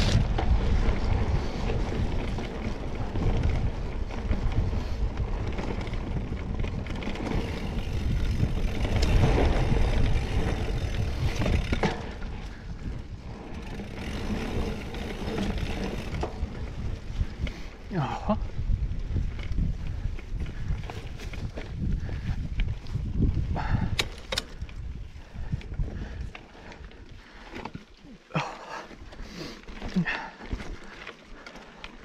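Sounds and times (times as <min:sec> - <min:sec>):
wind buffeting microphone: 0:00.0 - 0:27.8
bike tyres rattling on dirt: 0:00.0 - 0:32.0.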